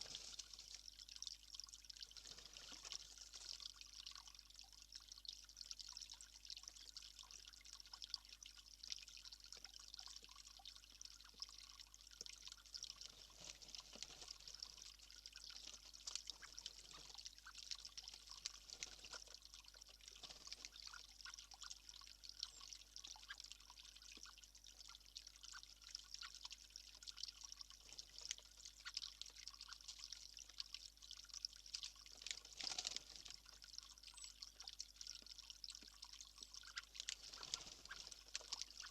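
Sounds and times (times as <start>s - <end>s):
small ticks and drips: 0.0s - 38.9s
trickle of running water: 0.0s - 38.9s.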